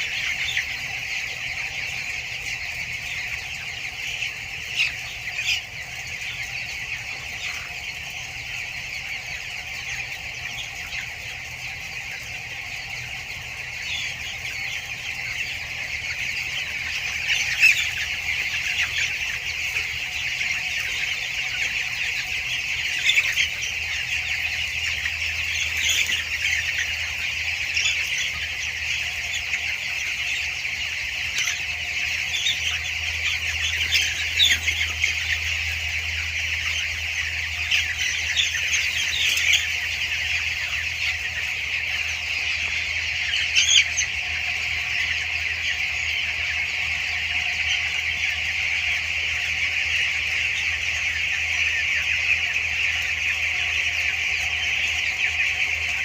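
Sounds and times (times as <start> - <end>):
chicks peeping and chirping: 0.0 - 56.0.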